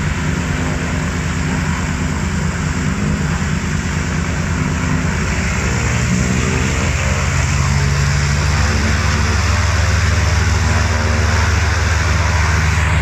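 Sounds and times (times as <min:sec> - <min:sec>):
radial aircraft engine running: 0:00.0 - 0:13.0.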